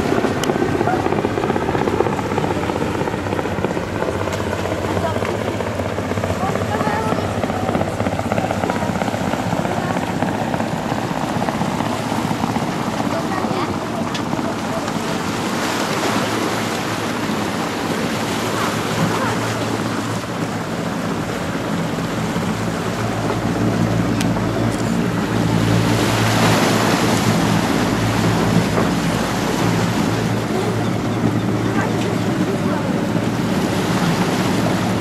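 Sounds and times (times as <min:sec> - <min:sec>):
helicopter rotor hum: 0:00.0 - 0:35.0
surf washing in: 0:00.0 - 0:35.0.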